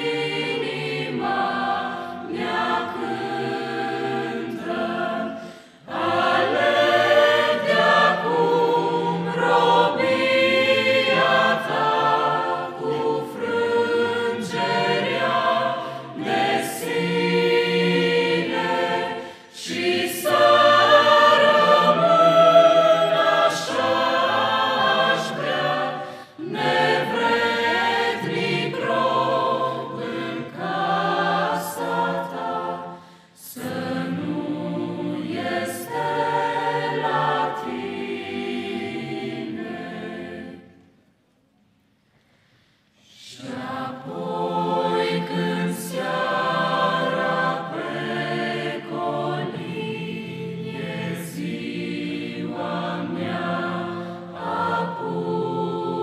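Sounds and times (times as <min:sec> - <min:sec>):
mixed choir singing a hymn: 0:00.0 - 0:41.0, 0:43.0 - 0:56.0.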